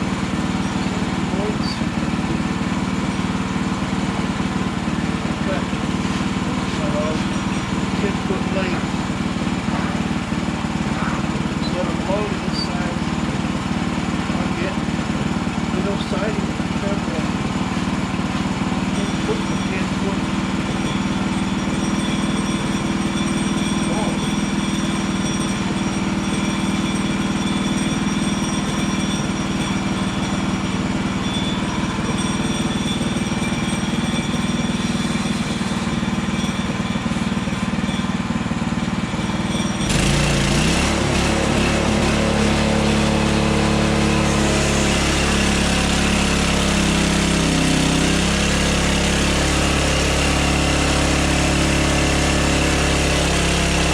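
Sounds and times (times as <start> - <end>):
sawmill gas engine running: 0.0 - 53.9.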